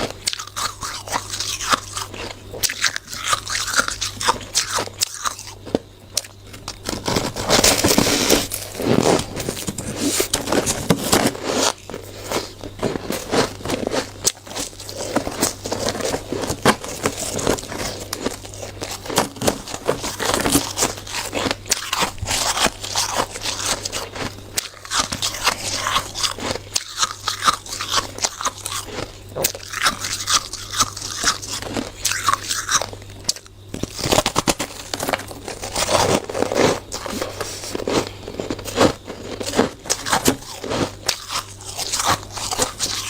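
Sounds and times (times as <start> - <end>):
chewing shaved ice crunching: 0.0 - 43.0.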